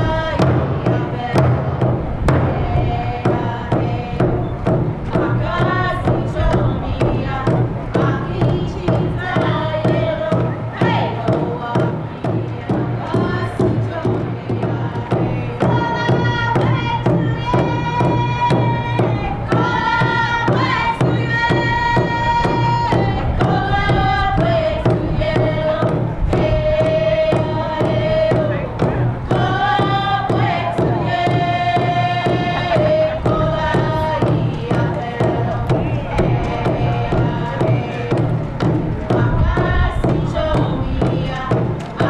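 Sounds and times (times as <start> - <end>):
chanted singing: 0.0 - 42.0
large drum steady beat: 0.0 - 42.0.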